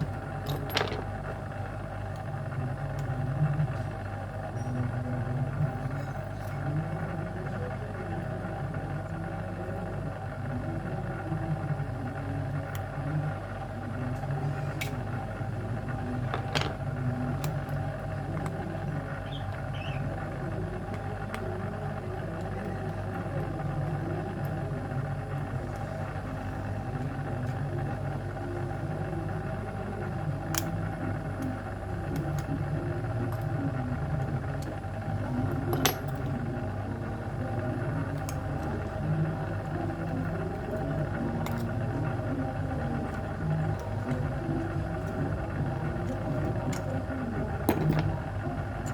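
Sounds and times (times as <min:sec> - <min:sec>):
low machine hum: 0:00.0 - 0:48.9.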